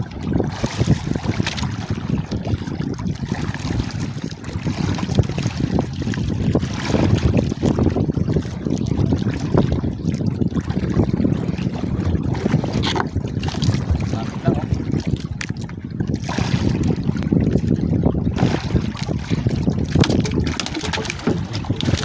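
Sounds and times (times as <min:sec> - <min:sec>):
choppy sea water washing: 0:00.0 - 0:22.0
wind buffeting microphone: 0:00.0 - 0:22.0.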